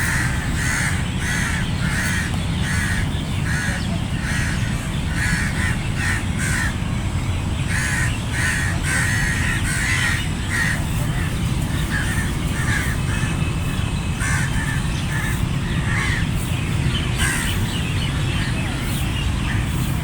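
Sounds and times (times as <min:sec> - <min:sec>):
crows cawing: 0:00.0 - 0:06.9, 0:07.6 - 0:18.8
steady low rumble: 0:00.0 - 0:20.0.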